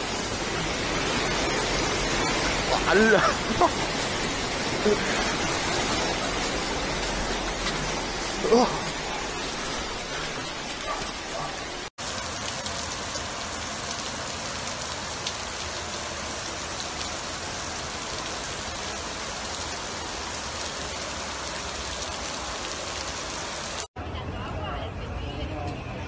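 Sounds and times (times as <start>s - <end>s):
heavy rain: 0.0s - 23.9s
running floodwater: 0.0s - 23.9s.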